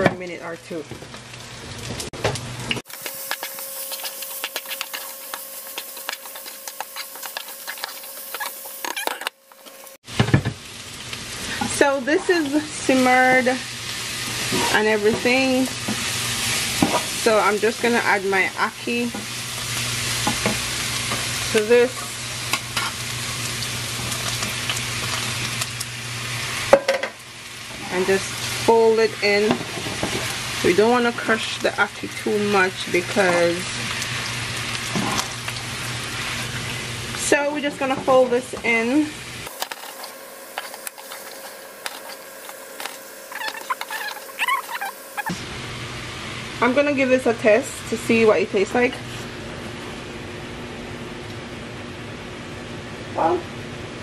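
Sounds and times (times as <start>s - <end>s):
food sizzling in a pan: 0.6s - 49.4s.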